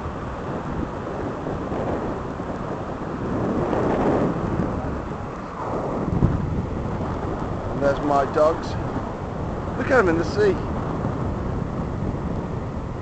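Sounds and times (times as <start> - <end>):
surf breaking on beach: 0.0 - 13.0
wind on microphone: 0.0 - 13.0.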